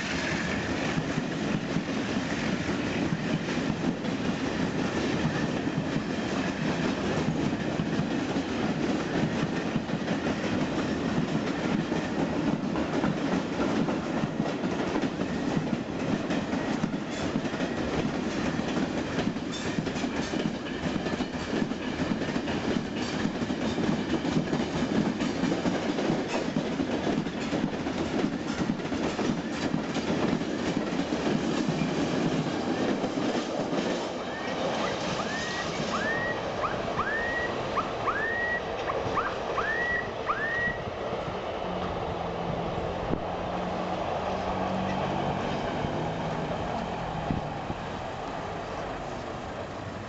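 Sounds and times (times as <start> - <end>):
freight train rolling past: 0.0 - 50.0.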